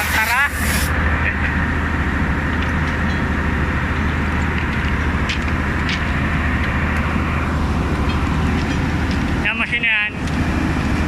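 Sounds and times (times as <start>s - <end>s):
heavy engine humming: 0.0s - 11.0s.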